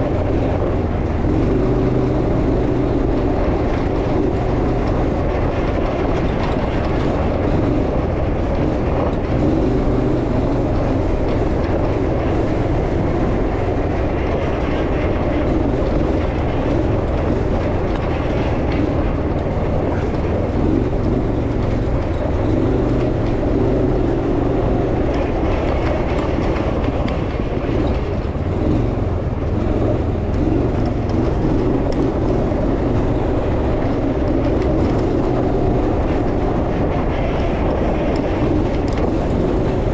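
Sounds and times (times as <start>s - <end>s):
off-road vehicle engine rumble: 0.0s - 39.9s
vehicle rattling: 0.0s - 39.9s.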